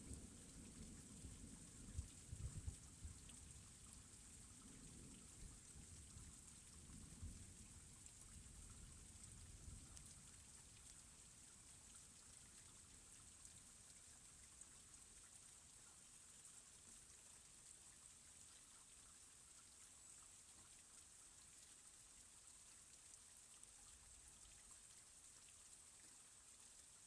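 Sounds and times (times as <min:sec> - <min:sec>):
faint steady rain: 0:00.0 - 0:27.0.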